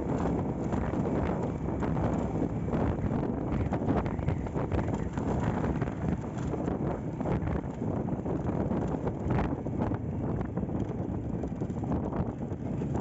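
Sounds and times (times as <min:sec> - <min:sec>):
motorcycle engine running: 0:00.0 - 0:13.0
road noise: 0:00.0 - 0:13.0
wind buffeting microphone: 0:00.0 - 0:13.0.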